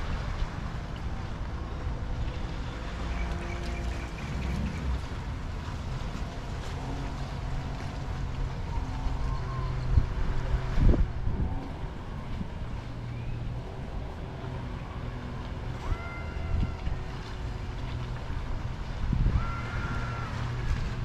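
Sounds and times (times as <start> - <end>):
boat motor humming: 0.0 - 21.0
wind rumbling on microphone: 0.0 - 21.0.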